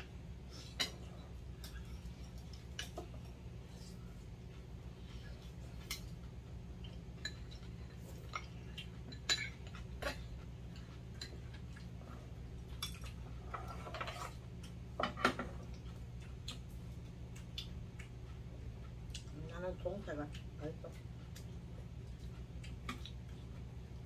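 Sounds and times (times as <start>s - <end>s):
chewing: 0.6s - 14.9s, 15.5s - 19.6s, 20.2s - 24.0s.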